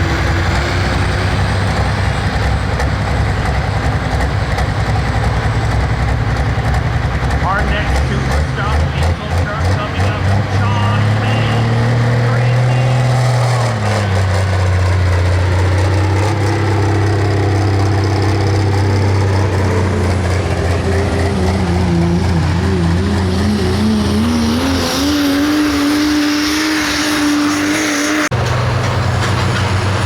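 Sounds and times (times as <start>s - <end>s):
diesel engine running hard: 0.0s - 30.0s.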